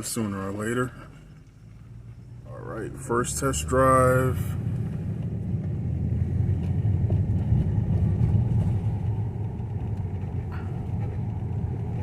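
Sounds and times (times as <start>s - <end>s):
car engine low rumble: 0.0s - 12.0s
road noise: 0.0s - 12.0s.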